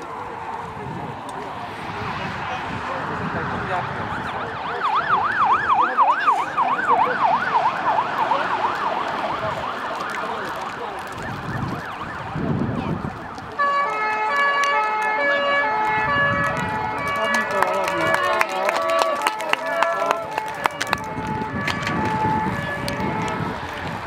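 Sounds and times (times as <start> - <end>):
siren wailing: 2.9 - 24.0.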